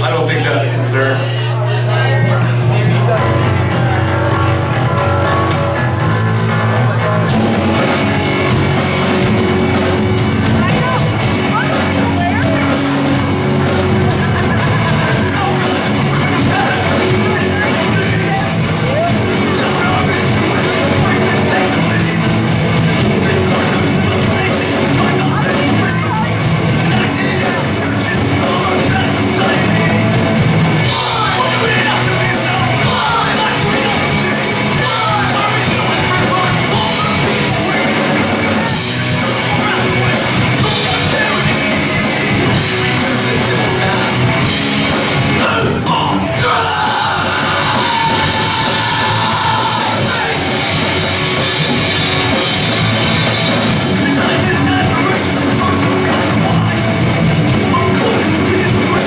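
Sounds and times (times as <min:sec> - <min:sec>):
bass guitar: 0:00.0 - 0:59.0
electric guitar: 0:00.6 - 0:59.0
drum kit: 0:01.2 - 0:59.0.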